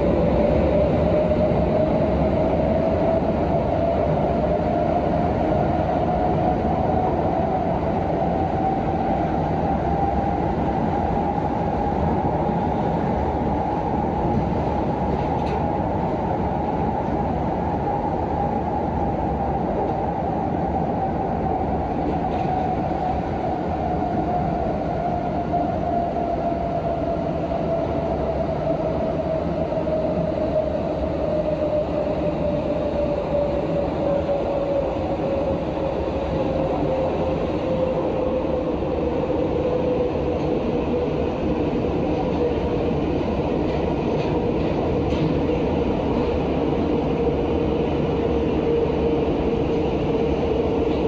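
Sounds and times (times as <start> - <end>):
train drive whine: 0.0 - 51.0
wheels rumbling on rail: 0.0 - 51.0.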